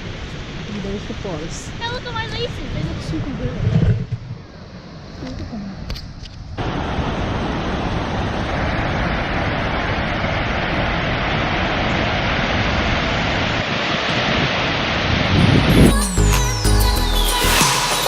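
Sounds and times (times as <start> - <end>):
waterfall rushing: 0.0 - 3.1, 6.6 - 18.0
wind rumbling on microphone: 0.0 - 16.0.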